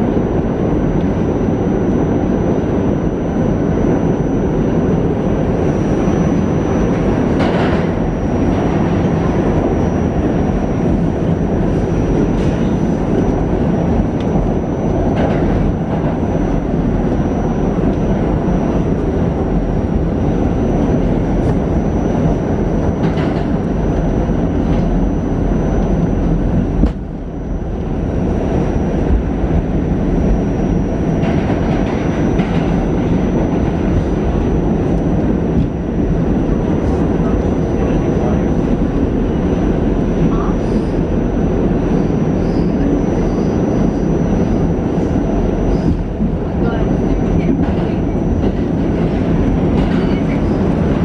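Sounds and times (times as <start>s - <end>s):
subway train rumbling in tunnel: 0.0s - 51.0s.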